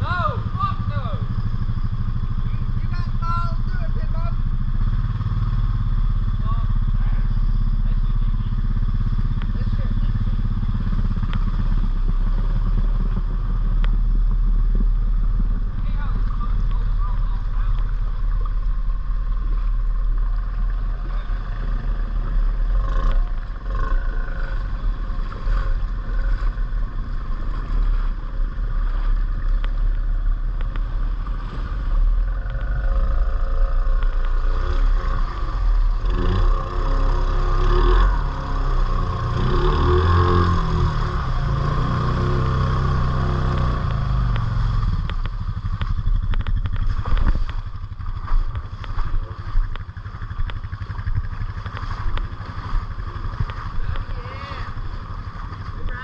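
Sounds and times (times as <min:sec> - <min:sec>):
atv engine running under load: 0:00.0 - 0:56.0
steady low rumble: 0:00.0 - 0:56.0.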